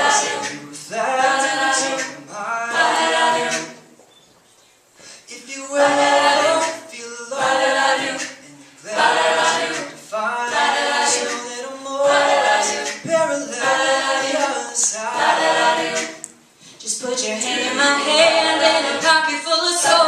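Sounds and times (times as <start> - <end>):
a cappella group singing: 0.0 - 4.0, 5.2 - 20.0.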